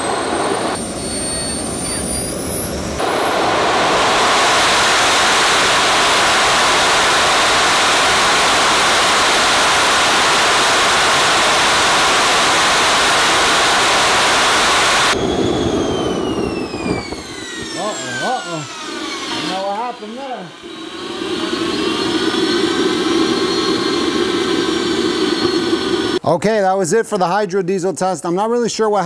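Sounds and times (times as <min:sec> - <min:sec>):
model jet turbine roaring: 0:00.0 - 0:26.2
turbine whine: 0:00.0 - 0:26.2.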